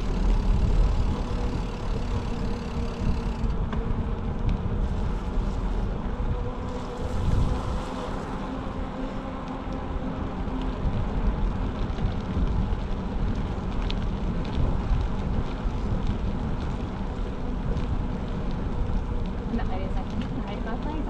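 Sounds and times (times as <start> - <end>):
bicycle tyres rolling on asphalt: 0.0 - 21.0
wind rushing over microphone: 0.0 - 21.0.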